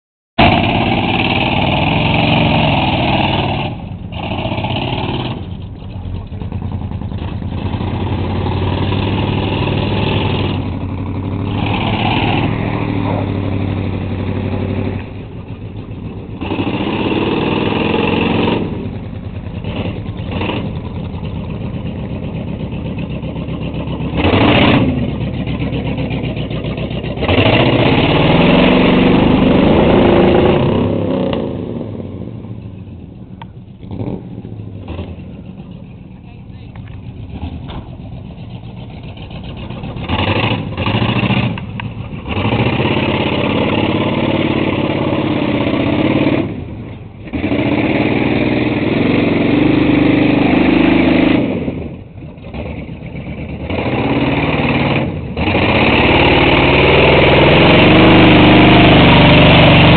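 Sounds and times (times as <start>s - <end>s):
truck engine revving: 0.4s - 59.9s.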